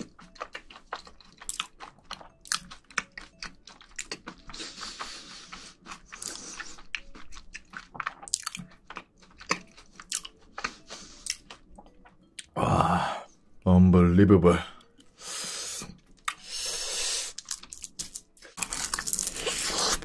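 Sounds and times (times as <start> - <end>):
person chewing food: 0.0 - 12.9, 14.8 - 20.0.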